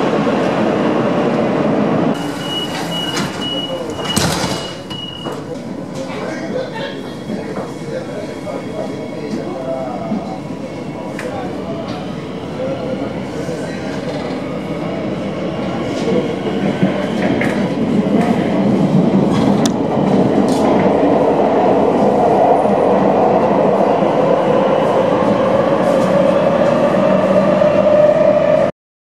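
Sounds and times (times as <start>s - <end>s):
metro train rumbling: 0.0s - 28.7s.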